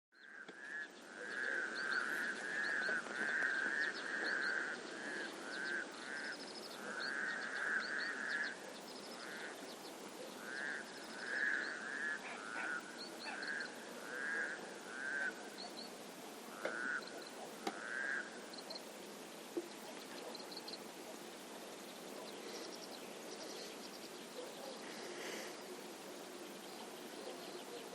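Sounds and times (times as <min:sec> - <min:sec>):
frogs croaking: 0:00.2 - 0:27.9
steady outdoor hiss: 0:00.2 - 0:27.9.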